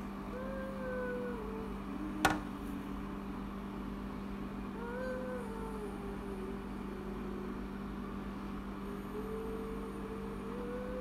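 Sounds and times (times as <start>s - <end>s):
projector fan hum: 0.0s - 11.0s.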